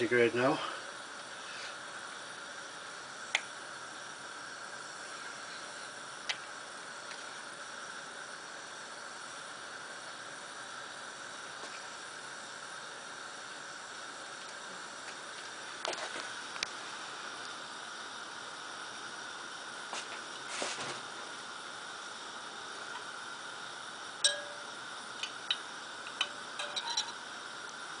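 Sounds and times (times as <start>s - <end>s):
oil bubbling with steady hiss: 0.0s - 28.0s.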